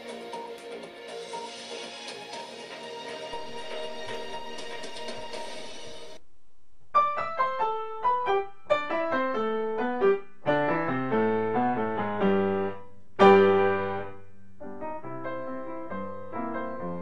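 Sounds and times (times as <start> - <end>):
piano music: 0.0 - 6.2, 7.0 - 17.0.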